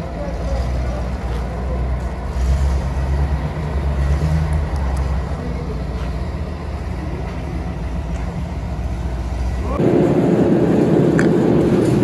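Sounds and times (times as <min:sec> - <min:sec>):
truck engine rumbling past: 0:00.0 - 0:12.0.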